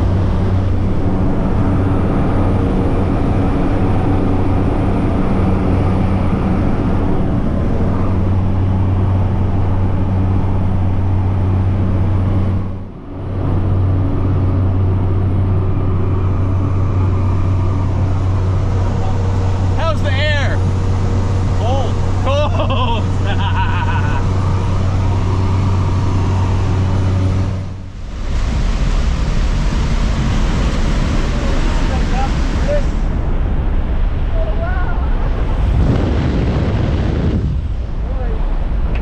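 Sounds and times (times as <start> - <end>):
plane engine and propeller hum: 0.0 - 39.0.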